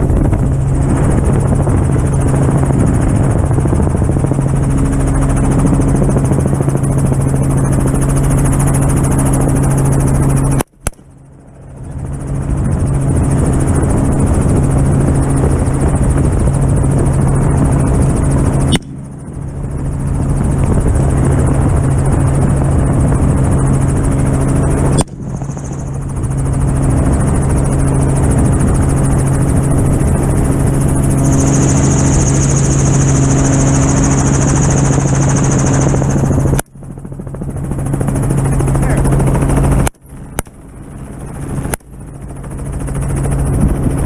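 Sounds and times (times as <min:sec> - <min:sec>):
helicopter engine and rotor drone: 0:00.0 - 0:44.0.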